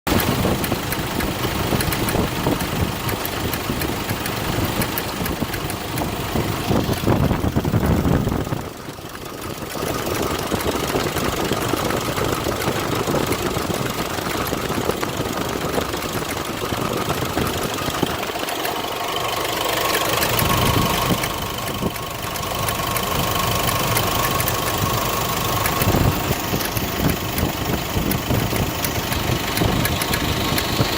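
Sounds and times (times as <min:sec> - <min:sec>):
alternator pulley knocking: 0:00.1 - 0:30.9
diesel engine running: 0:00.1 - 0:30.9.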